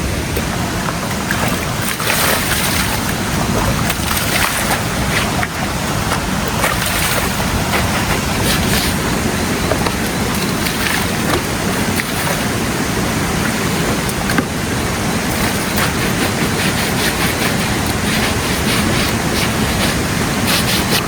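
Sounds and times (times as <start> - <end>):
rushing water: 0.0 - 21.0
water splashing: 0.0 - 21.0.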